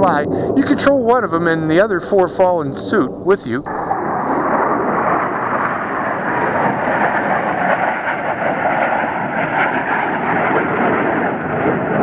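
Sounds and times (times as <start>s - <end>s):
jet engines flying past: 0.0s - 12.0s.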